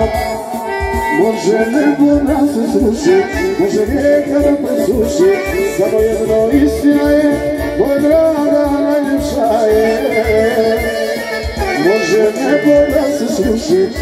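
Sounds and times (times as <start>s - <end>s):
folk music on electronic keyboards: 0.0s - 14.0s.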